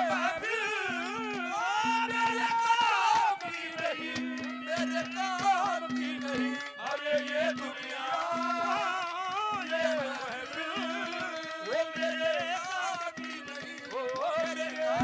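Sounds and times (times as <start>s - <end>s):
ornamented folk melody: 0.0s - 15.0s.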